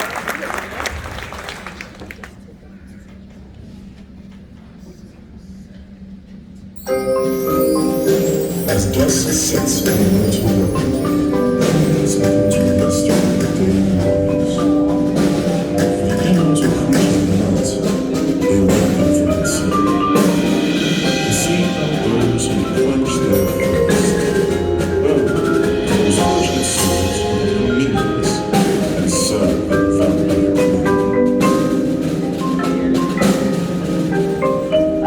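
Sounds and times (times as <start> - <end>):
marching band playing: 6.8 - 35.0
marimbas and mallet percussion: 6.8 - 35.0
struck percussion hits: 6.8 - 35.0.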